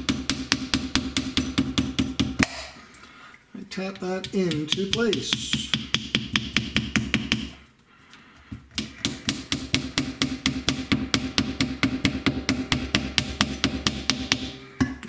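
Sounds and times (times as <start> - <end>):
hammer tapping on wooden block: 0.0 - 2.6, 4.0 - 7.6, 8.6 - 15.0.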